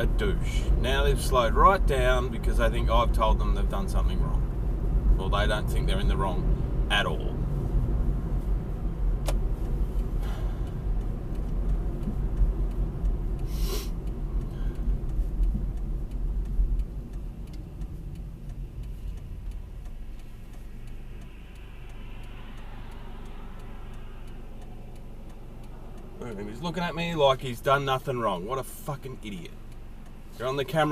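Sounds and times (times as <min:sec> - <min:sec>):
car engine and road rumble: 0:00.0 - 0:30.9
faint regular ticking: 0:00.0 - 0:30.9.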